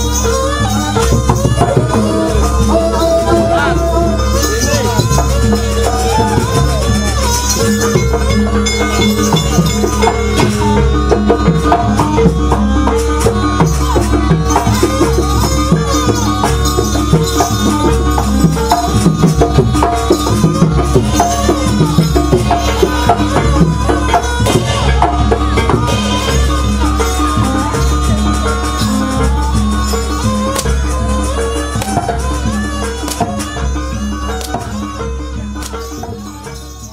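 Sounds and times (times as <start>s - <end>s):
drumming and rattling percussion: 0.0s - 36.9s
wavering melody with held notes: 0.0s - 36.9s.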